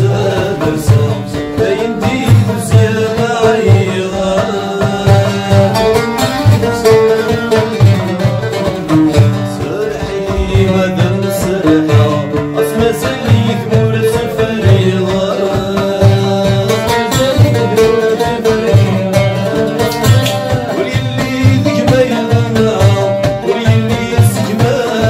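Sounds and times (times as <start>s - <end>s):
man singing: 0.0s - 25.0s
oud plucked melody: 0.0s - 25.0s.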